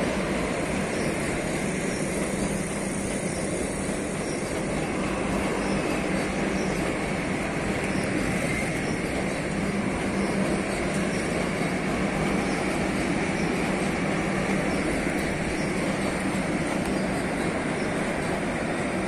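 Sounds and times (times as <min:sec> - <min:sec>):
train wheels rumbling past: 0:00.0 - 0:19.0.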